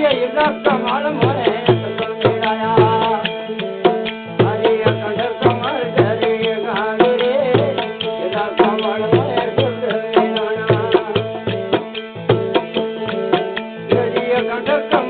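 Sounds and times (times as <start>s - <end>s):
hand drum beat: 0.0s - 15.0s.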